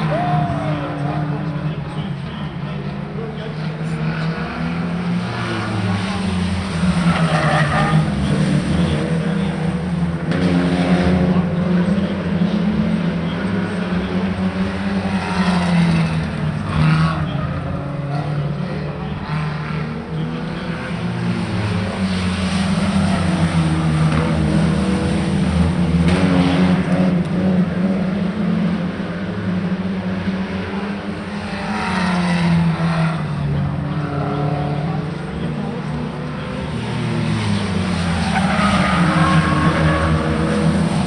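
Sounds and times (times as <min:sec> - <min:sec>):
race car engine revving: 0:00.0 - 0:41.0.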